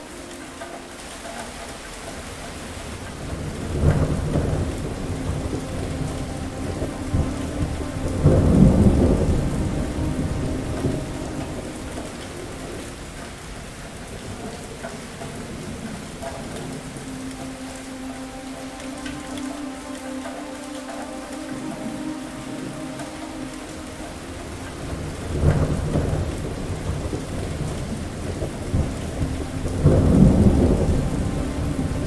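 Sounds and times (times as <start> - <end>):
steady rain: 0.0 - 32.0
thunder rumbling: 1.5 - 19.3, 21.0 - 32.0.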